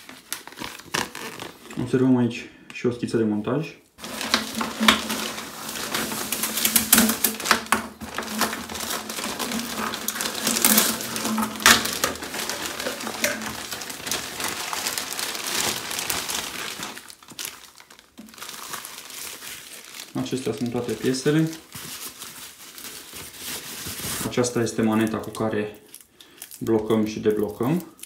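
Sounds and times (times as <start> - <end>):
plastic bags crinkling: 0.0 - 2.0, 4.0 - 28.0.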